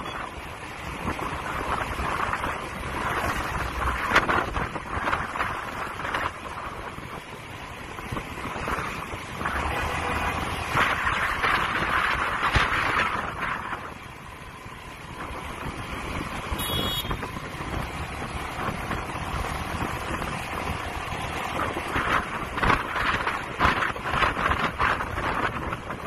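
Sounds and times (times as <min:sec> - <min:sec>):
road and traffic noise: 0:00.0 - 0:26.0
wind buffeting microphone: 0:00.0 - 0:26.0.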